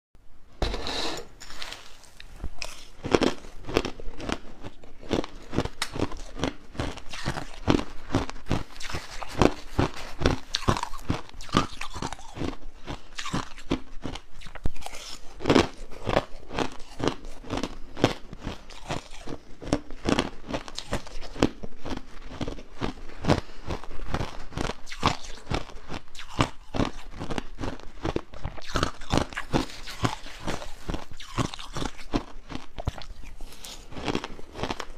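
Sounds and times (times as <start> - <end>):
ice being chewed: 1.4 - 34.9.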